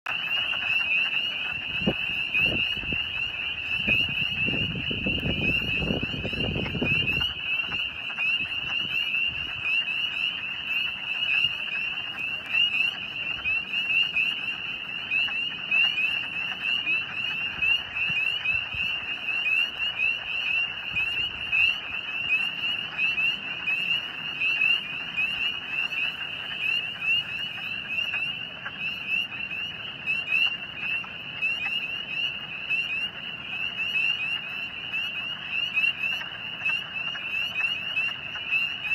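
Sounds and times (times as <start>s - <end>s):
chorus of frog peeps: 0.1s - 38.9s
frogs clucking: 0.1s - 38.9s.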